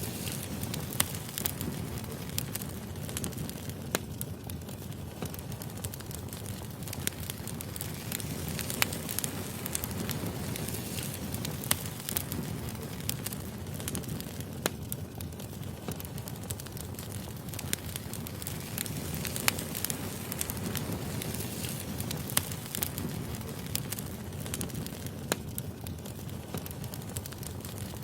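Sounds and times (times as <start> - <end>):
burning logs popping and snapping: 0.0 - 28.0
wood fire crackling: 0.0 - 28.0.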